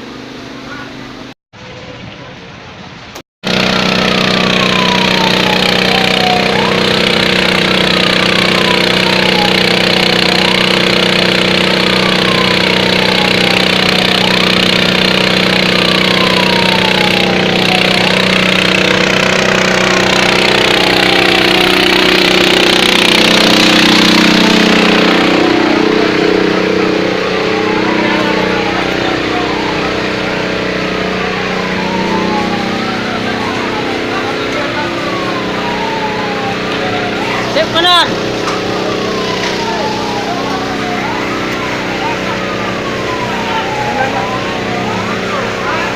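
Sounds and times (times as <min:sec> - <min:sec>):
large engine running: 0:03.4 - 0:45.9
siren wailing: 0:03.4 - 0:45.9.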